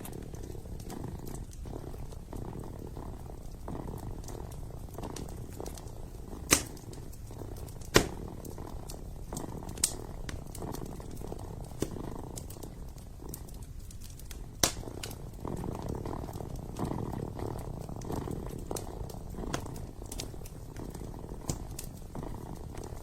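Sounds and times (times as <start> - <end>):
kitten purring: 0.0 - 23.0
wood fire crackling and popping: 0.0 - 23.0.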